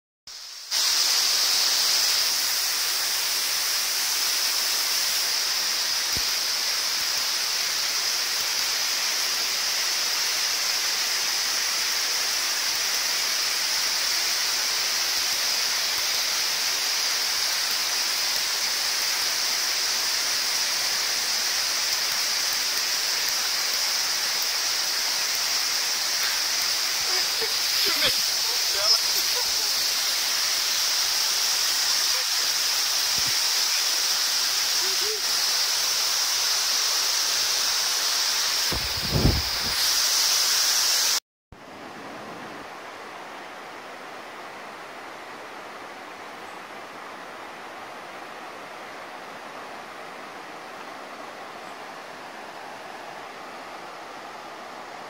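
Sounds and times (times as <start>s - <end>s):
waterfall rushing into pool: 0.3s - 55.0s.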